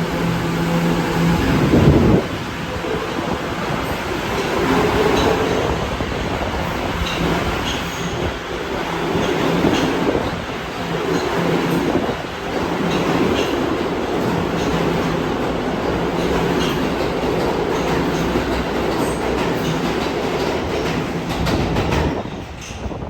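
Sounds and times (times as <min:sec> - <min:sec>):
subway train rumbling: 0:00.0 - 0:23.0
wheels clicking on track: 0:03.8 - 0:23.0.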